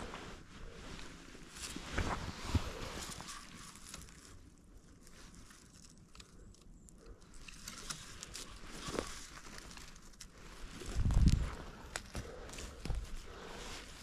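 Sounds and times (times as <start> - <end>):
footsteps through undergrowth: 0.0 - 6.2, 7.4 - 14.0
small crackles and rustles: 0.0 - 14.0.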